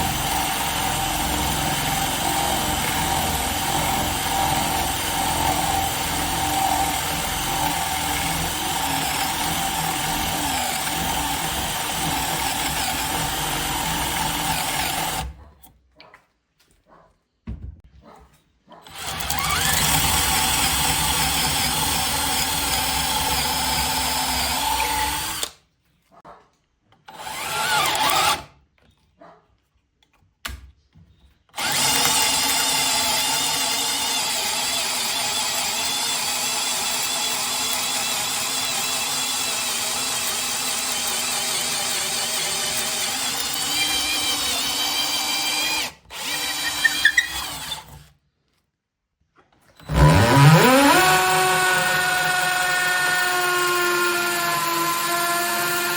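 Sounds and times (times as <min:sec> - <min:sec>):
cordless drill running: 0:00.0 - 0:15.4, 0:18.8 - 0:25.6, 0:27.1 - 0:28.5, 0:31.6 - 0:48.1, 0:49.8 - 0:55.9.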